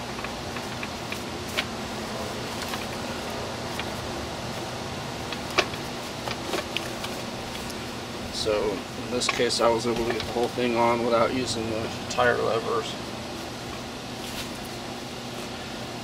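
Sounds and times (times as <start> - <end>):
background hum: 0.0 - 16.0.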